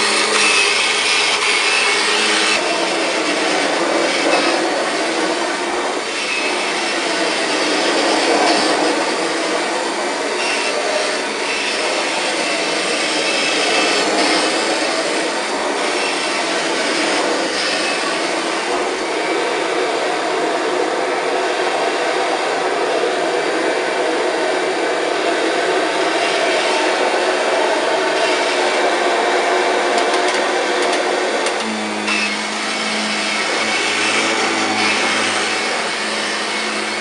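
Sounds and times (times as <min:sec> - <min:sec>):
upright vacuum cleaner running: 0:00.0 - 0:37.0.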